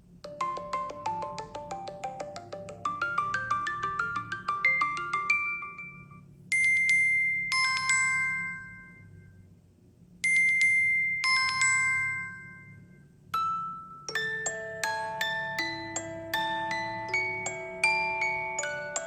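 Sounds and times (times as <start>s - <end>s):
chiming bell-like ringtone: 0.3s - 9.4s, 10.2s - 19.0s.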